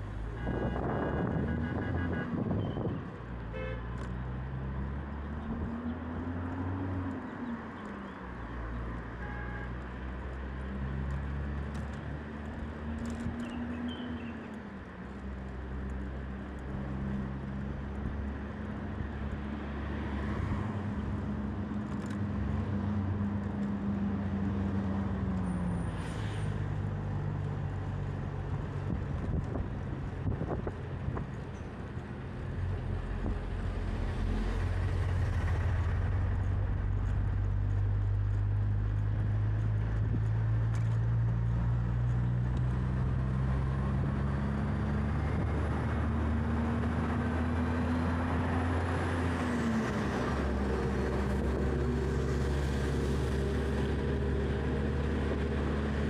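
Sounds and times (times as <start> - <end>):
vehicle engines humming: 0.0 - 56.0.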